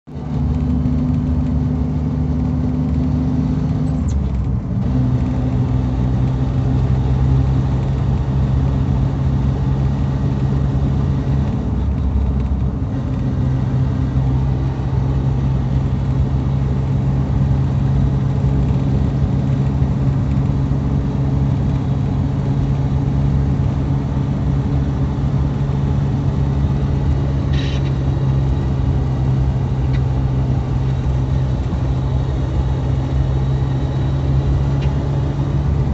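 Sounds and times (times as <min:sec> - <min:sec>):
car driving low drone: 0:00.1 - 0:35.9.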